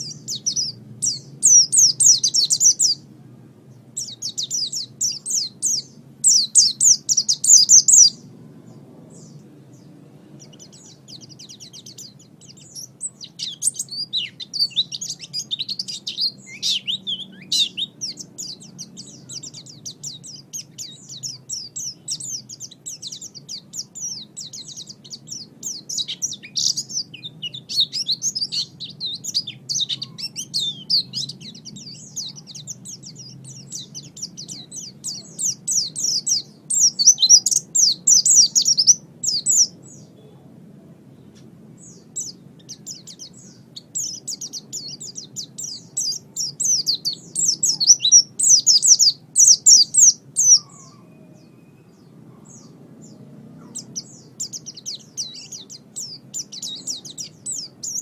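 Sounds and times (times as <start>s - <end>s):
bird twittering song: 0.0s - 40.4s, 41.0s - 58.0s
faint steady low hum: 0.0s - 58.0s.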